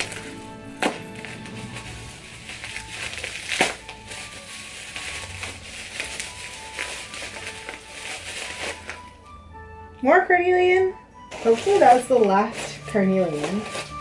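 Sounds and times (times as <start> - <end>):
plastic bag of stones crinkling: 0.0 - 9.2, 11.2 - 14.0.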